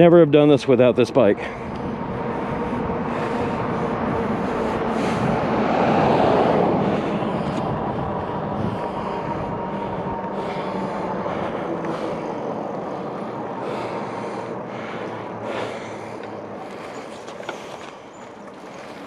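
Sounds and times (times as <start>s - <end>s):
rushing wind: 0.0s - 19.0s
faint steady whine: 1.1s - 19.0s
bike tyres rolling: 1.4s - 19.0s.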